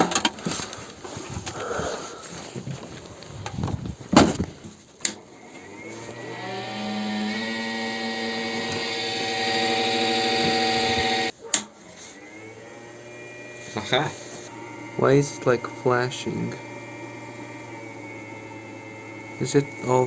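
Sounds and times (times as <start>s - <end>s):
battery charger humming: 3.2s - 20.0s.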